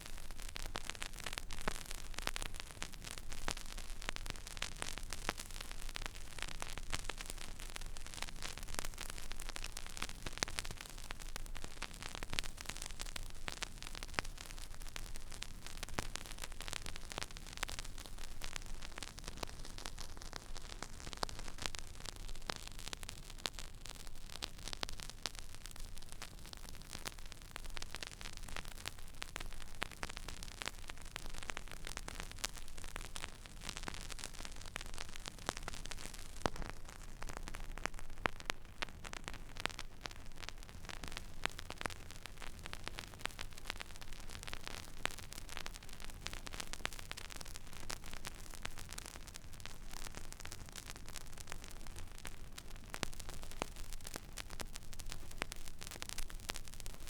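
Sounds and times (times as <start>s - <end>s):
vinyl surface hiss and crackle: 0.0s - 57.0s.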